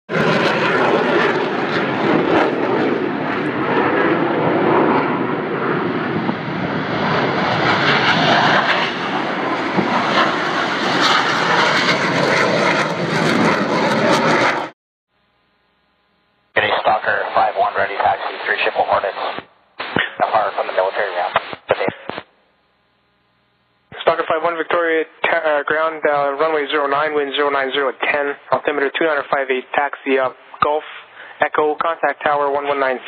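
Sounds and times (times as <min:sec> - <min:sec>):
fighter jets taking off: 0:00.1 - 0:14.8, 0:16.6 - 0:22.3, 0:23.9 - 0:33.0.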